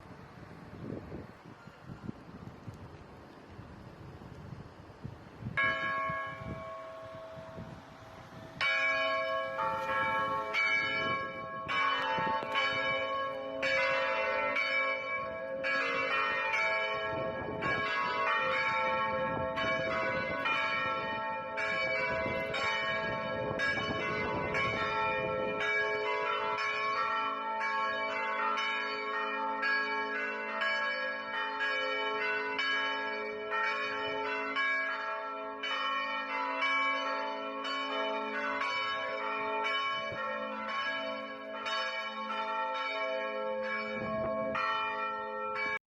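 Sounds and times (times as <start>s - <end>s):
church bells ringing: 5.6s - 45.8s.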